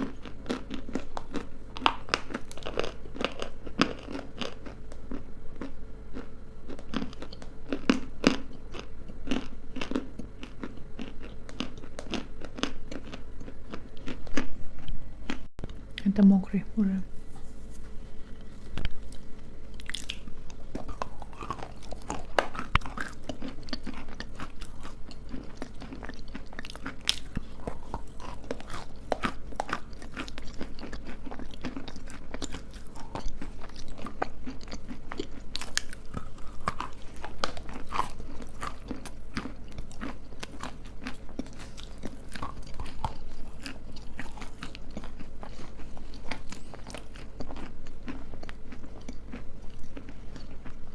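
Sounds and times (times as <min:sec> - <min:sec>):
chewing crunchy food: 0:00.0 - 0:16.1, 0:17.3 - 0:50.9.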